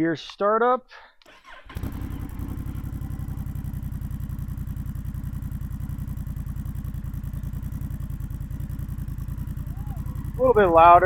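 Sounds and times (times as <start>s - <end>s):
motorcycle engine starting and idling: 1.3s - 11.0s.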